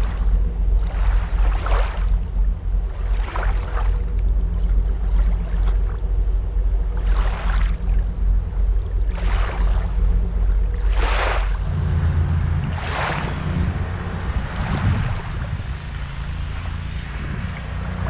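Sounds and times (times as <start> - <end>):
boat motor rumble: 0.0 - 18.0
boat wake churning and splashing: 0.0 - 18.0.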